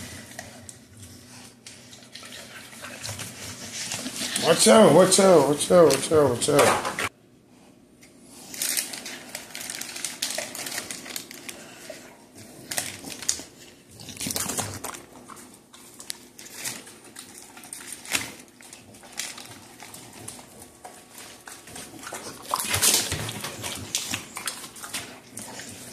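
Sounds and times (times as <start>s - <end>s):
dog chewing and licking: 0.0s - 6.0s, 8.6s - 25.9s.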